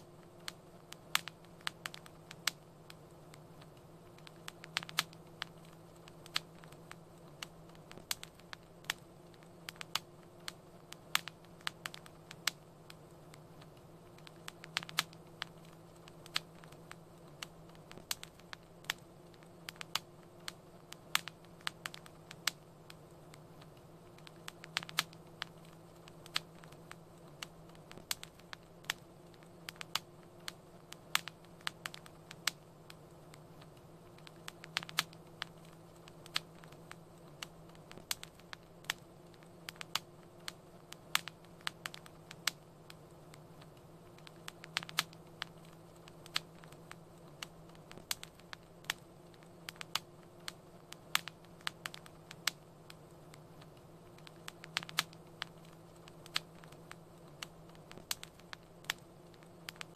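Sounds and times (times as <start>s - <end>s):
steady low hum: 0.0s - 59.9s
wood fire crackling: 0.0s - 59.9s.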